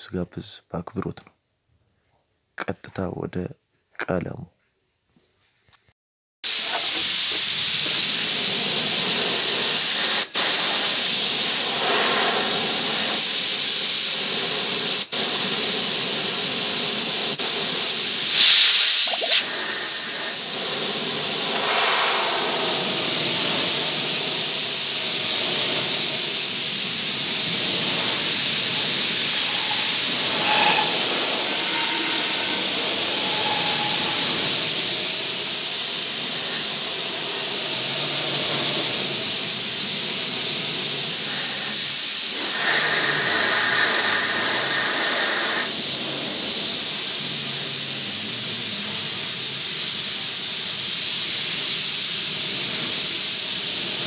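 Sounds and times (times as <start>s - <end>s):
spray gun hissing: 6.5s - 54.0s.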